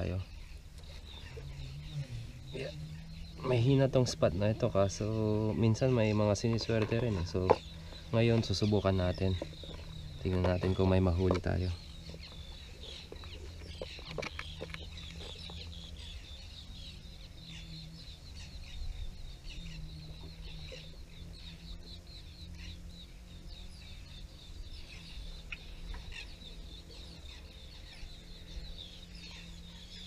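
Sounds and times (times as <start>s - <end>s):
many birds chattering and chirping: 0.0s - 30.0s
steady low hum: 0.0s - 30.0s.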